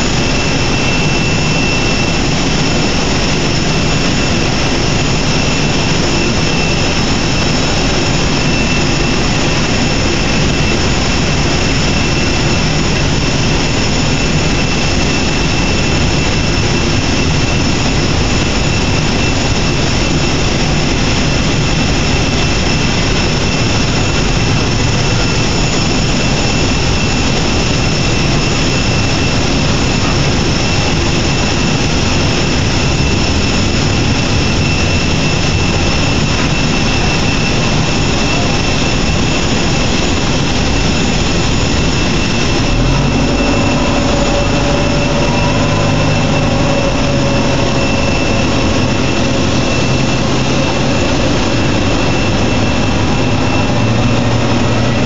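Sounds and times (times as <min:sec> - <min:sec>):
deep engine drone: 0:00.0 - 0:55.0
high piercing steady tones: 0:00.0 - 0:55.0
jet engine whine: 0:00.0 - 0:55.0.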